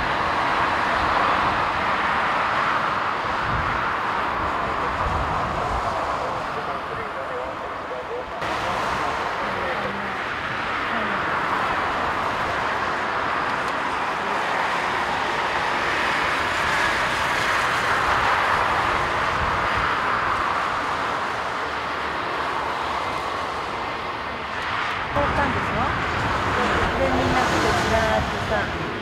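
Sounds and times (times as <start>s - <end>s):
jet engine rushing hum: 0.0s - 29.0s.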